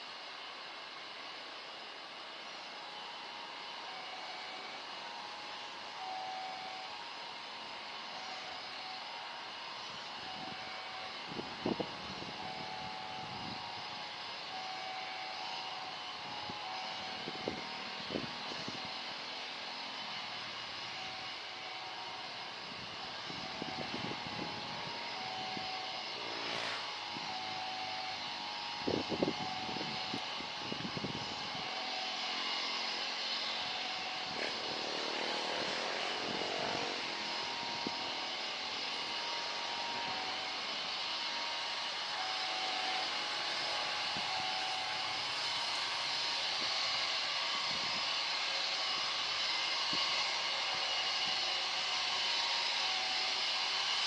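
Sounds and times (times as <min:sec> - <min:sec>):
distant jet engines rushing: 0:00.0 - 0:54.0.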